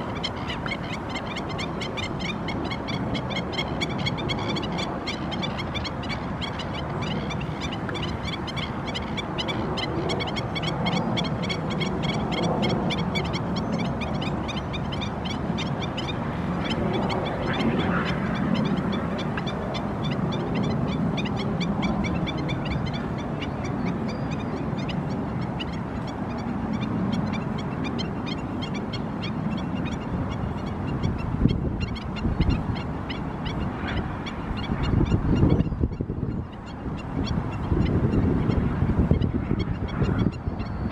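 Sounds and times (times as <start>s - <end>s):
wild birds calling: 0.0s - 40.9s.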